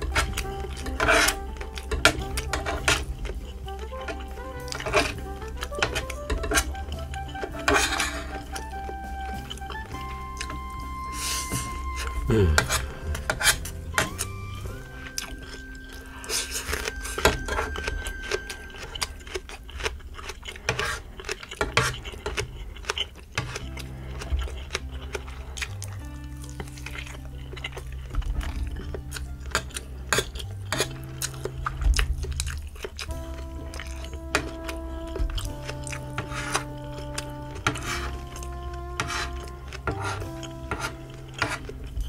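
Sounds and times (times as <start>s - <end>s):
background music with bass line: 0.0s - 18.4s, 23.6s - 42.0s
chewing: 0.0s - 42.0s.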